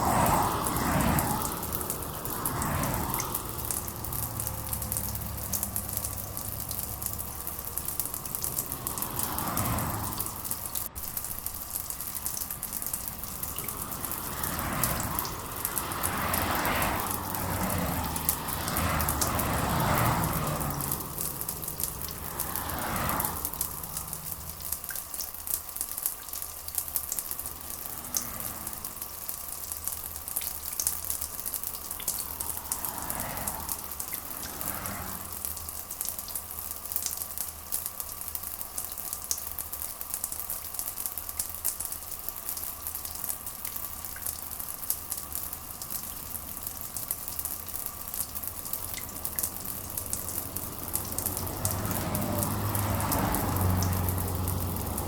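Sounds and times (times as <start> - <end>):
rain patter: 0.0 - 55.0.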